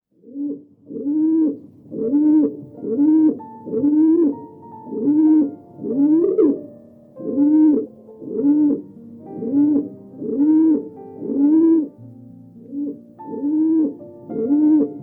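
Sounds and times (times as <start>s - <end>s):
bird calling: 0.3s - 6.6s, 7.2s - 8.8s, 9.4s - 12.0s, 12.6s - 15.0s.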